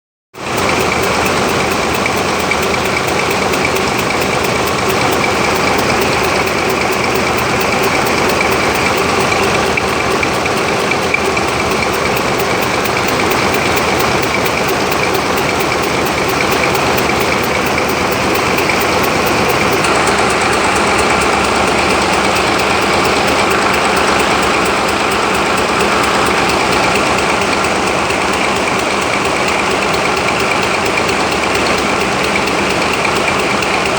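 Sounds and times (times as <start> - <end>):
ship engine clattering: 0.4 - 33.9.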